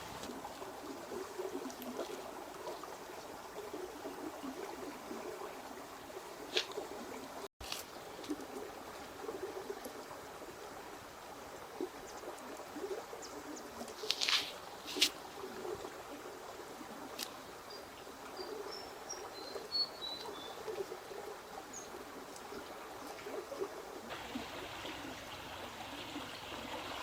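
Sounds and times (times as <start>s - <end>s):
water trickling and burbling: 0.0s - 27.0s.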